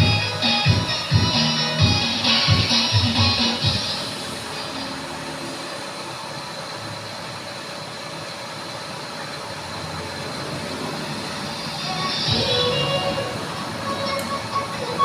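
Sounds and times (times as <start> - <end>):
drilling machine hum and hiss: 0.0 - 15.0.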